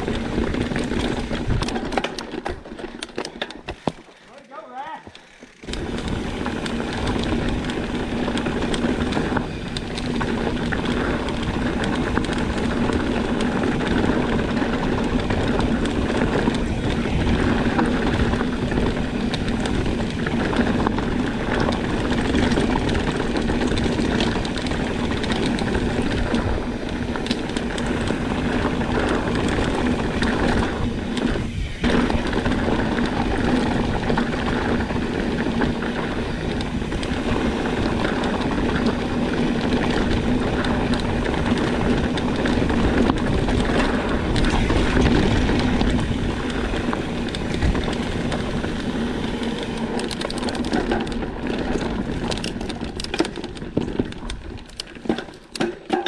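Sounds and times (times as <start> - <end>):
continuous rushing noise: 0.0 - 56.0.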